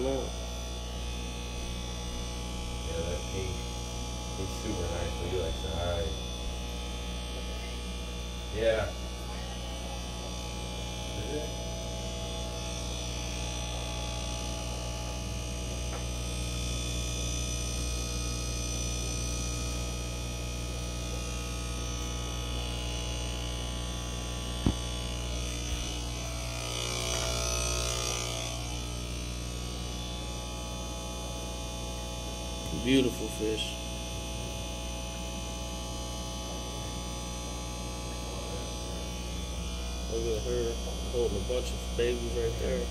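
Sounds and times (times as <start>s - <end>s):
aquarium pumps humming: 0.0s - 42.9s.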